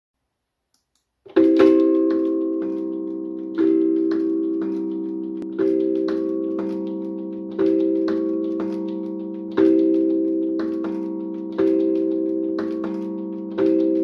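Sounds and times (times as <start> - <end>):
tongue drum tune: 1.3 - 14.0.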